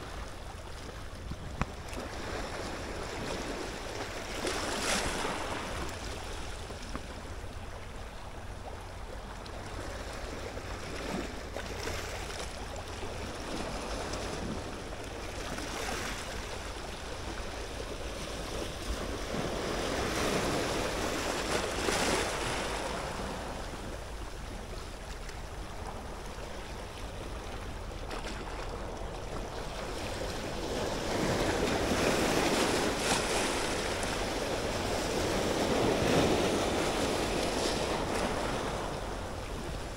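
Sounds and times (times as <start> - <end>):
small waves washing onto shore: 0.0 - 39.9
wind rumbling on microphone: 0.0 - 39.9.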